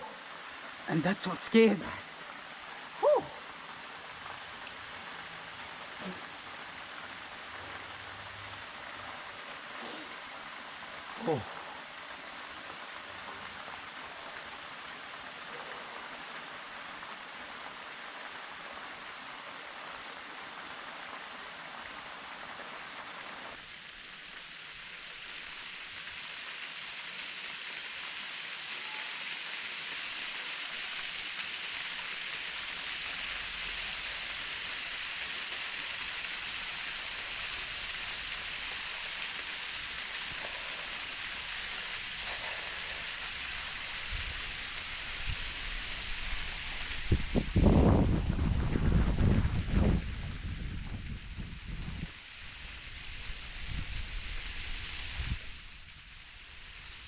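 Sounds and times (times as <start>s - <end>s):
waterfall pouring into pool: 0.0s - 57.0s.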